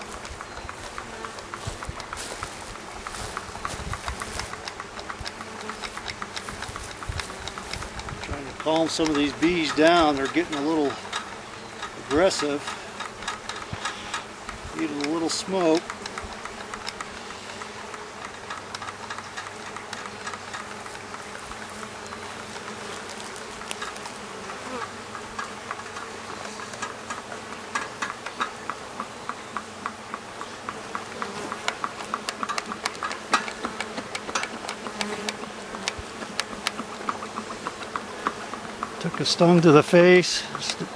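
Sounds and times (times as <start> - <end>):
bees buzzing: 0.0 - 40.9
sharp clicks and taps: 0.1 - 39.8.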